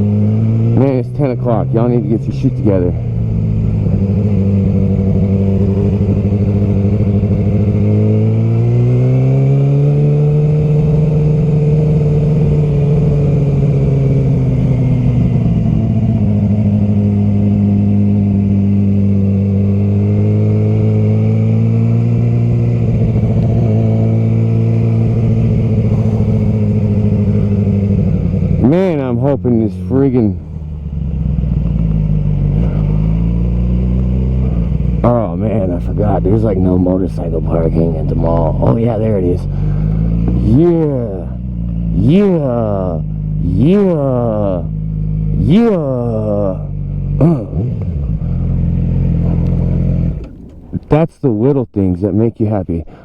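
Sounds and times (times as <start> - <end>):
motorcycle engine running: 0.0 - 51.1.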